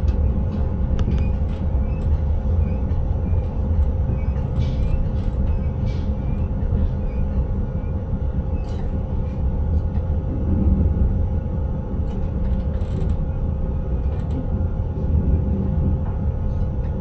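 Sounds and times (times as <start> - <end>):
constant hum: 0.0 - 17.0
train wheels rumbling on track: 0.0 - 17.0.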